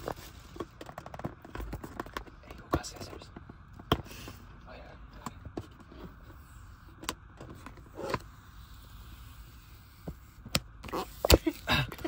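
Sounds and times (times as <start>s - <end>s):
low rumble inside car: 0.0s - 12.0s.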